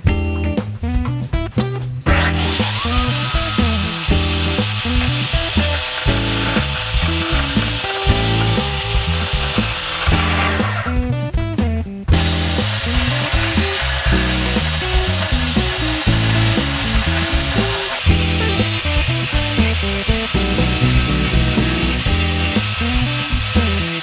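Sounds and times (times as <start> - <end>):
electric drill spinning wood: 2.1 - 11.0, 12.2 - 24.0.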